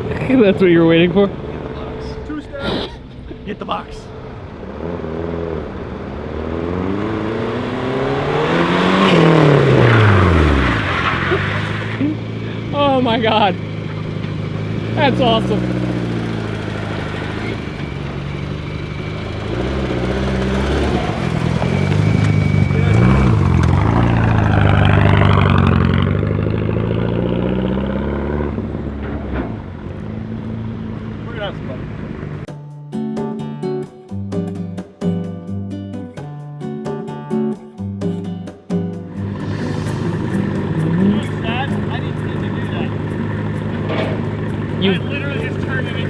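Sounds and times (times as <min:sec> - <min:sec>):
rally car engine revving: 0:00.0 - 0:32.5, 0:39.1 - 0:46.0.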